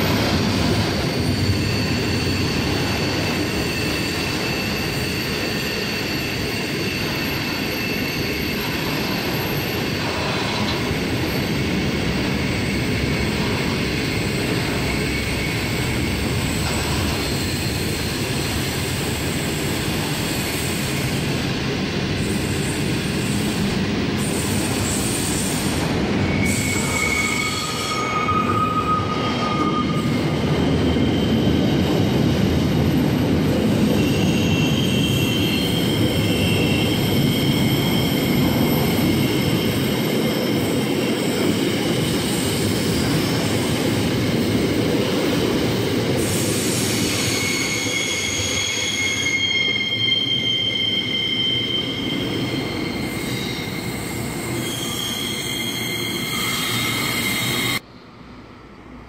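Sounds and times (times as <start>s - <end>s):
train wheels rumbling on rails: 0.0s - 57.9s
high-pitched wheel squeals: 0.7s - 18.4s, 24.2s - 32.1s, 33.8s - 44.2s, 46.2s - 57.8s.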